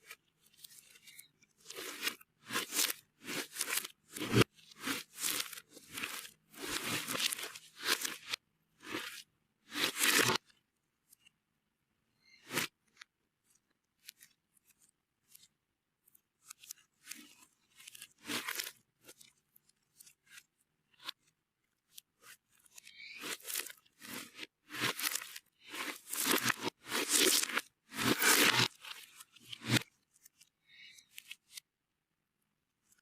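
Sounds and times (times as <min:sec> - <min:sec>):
crunchy slime squishes: 0:00.0 - 0:11.2, 0:12.2 - 0:21.3, 0:21.9 - 0:31.6.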